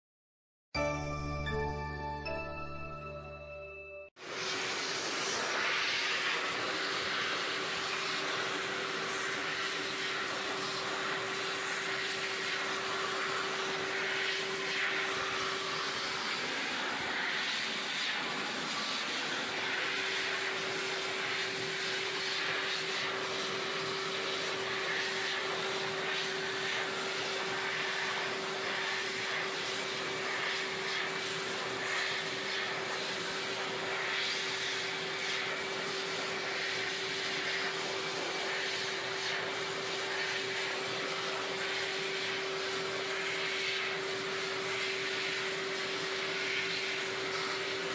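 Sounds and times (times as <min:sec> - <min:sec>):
vacuum cleaner motor whine: 0:04.2 - 0:47.9.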